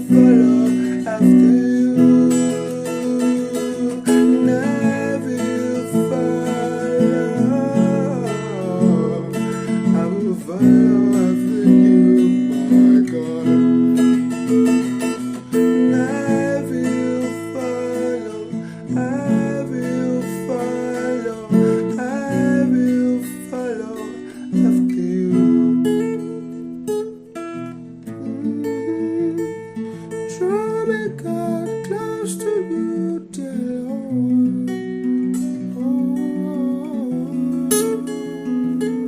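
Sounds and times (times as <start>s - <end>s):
acoustic guitar strumming chords: 0.0s - 39.0s.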